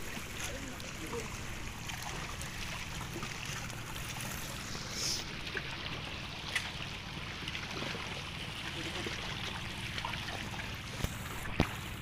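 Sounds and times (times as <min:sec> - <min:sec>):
seawater sloshing and trickling: 0:00.0 - 0:12.0
small splashes: 0:00.0 - 0:12.0.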